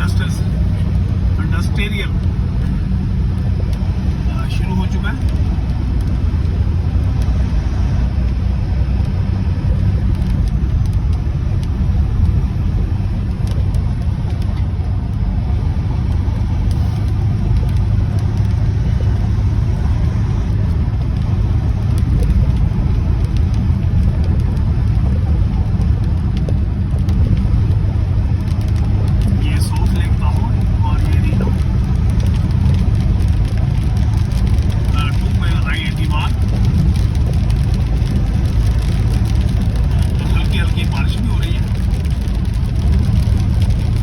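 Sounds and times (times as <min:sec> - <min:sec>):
car engine and tyre rumble: 0:00.0 - 0:44.0.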